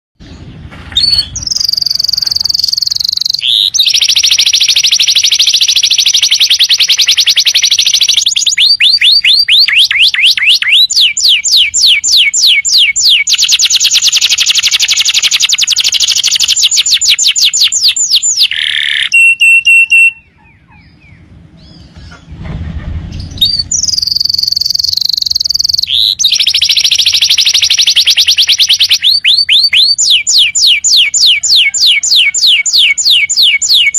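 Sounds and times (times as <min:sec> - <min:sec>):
canary singing: 0:00.2 - 0:22.4, 0:23.2 - 0:33.9.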